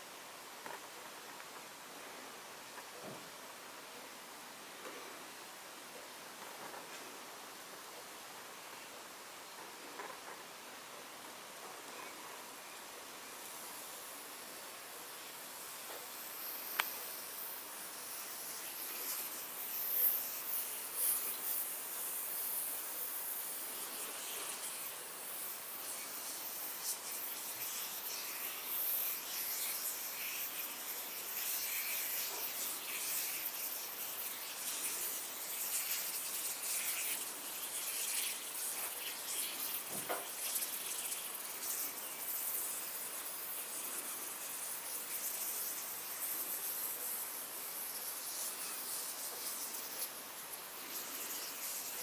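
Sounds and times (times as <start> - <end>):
high hiss of spraying liquid: 0.0 - 52.0.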